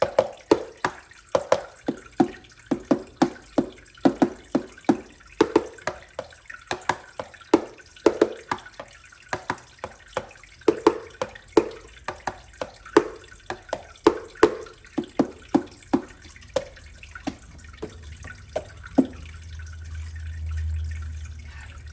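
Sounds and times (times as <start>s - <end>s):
water dripping: 0.0s - 21.9s.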